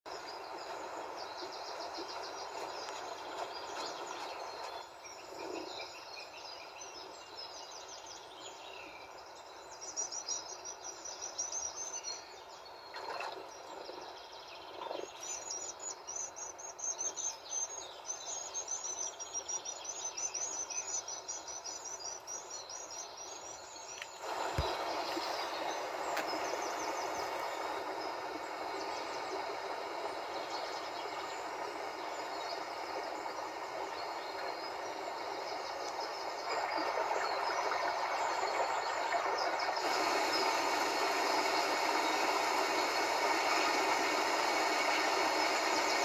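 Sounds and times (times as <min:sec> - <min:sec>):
steady hiss: 0:00.1 - 0:08.6, 0:13.4 - 0:46.0
bird chirping: 0:00.1 - 0:46.0.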